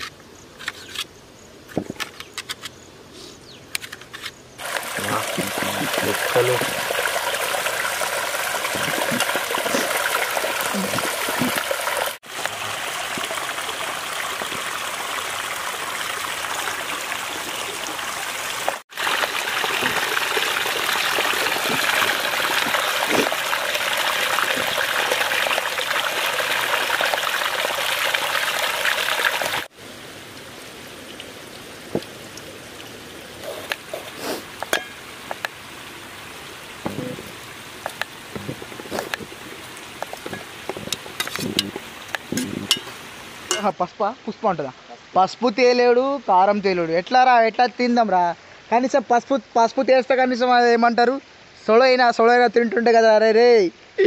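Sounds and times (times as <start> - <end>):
running water rushing: 4.6 - 49.0.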